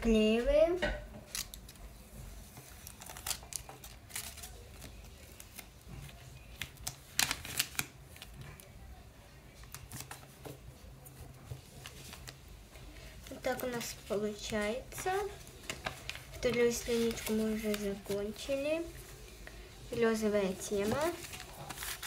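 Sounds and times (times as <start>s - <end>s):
paper crinkles: 1.2s - 8.8s, 9.5s - 19.4s, 20.0s - 22.0s.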